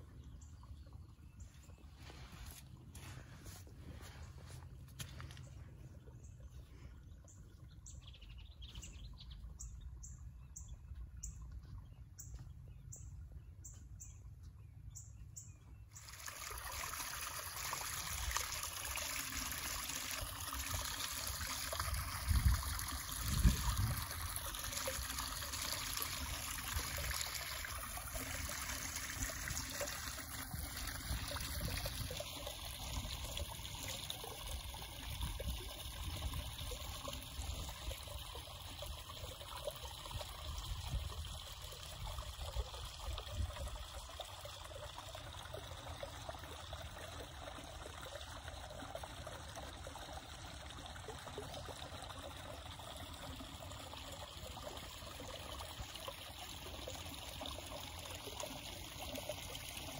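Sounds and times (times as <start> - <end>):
water trickling over rocks: 0.0 - 15.0, 15.6 - 59.9.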